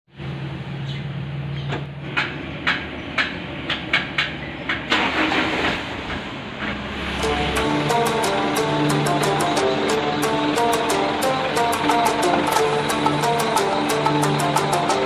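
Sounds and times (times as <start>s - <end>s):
low mechanical hum: 0.1s - 15.0s.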